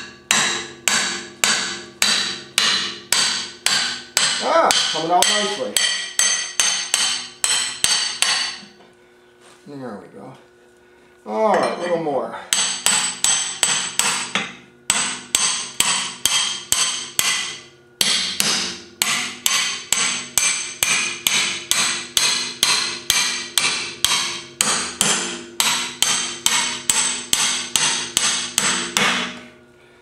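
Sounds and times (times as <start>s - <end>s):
hammer striking metal: 0.0s - 8.8s, 11.6s - 29.6s.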